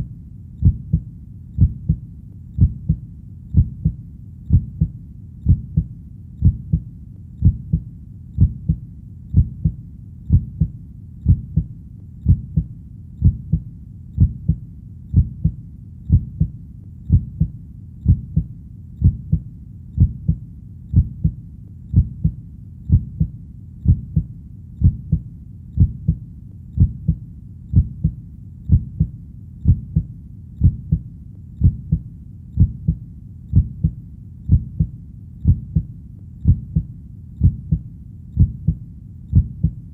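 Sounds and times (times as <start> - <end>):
heartbeat double thump: 0.6 - 2.0, 2.6 - 3.0, 3.6 - 6.8, 7.4 - 7.8, 8.4 - 16.5, 17.1 - 19.4, 20.0 - 25.2, 25.8 - 26.2, 26.8 - 31.0, 31.6 - 32.0, 32.6 - 37.8, 38.4 - 39.8.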